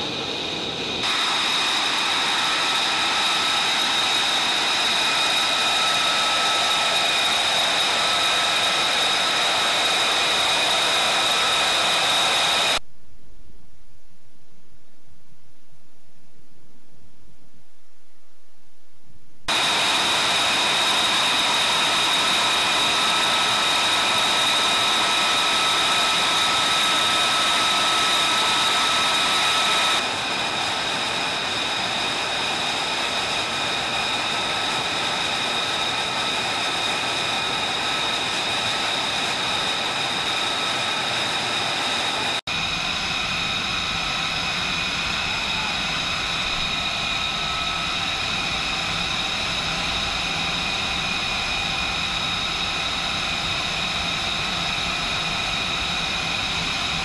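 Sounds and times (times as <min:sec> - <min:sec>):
jet engine idling whine: 0:00.0 - 0:57.0.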